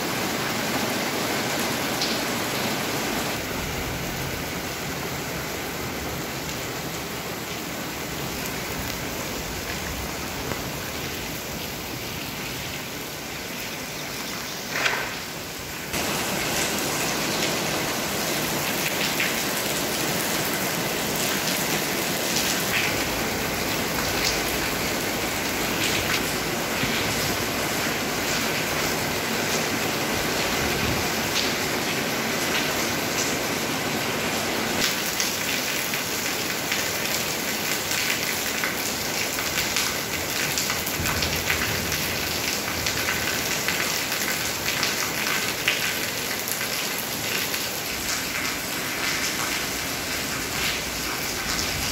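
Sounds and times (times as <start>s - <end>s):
heavy rain on paving: 0.0s - 51.9s.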